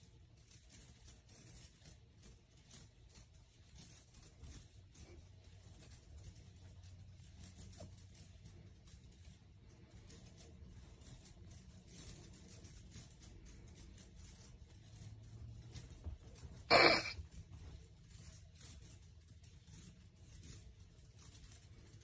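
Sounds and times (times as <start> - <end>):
kittens scratching on bedding: 0.0 - 22.0.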